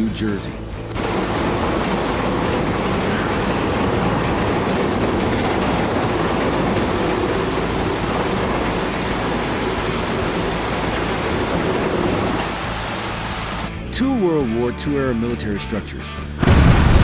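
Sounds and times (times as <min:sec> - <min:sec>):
loud steady rumbling: 0:00.6 - 0:13.8, 0:16.4 - 0:17.0.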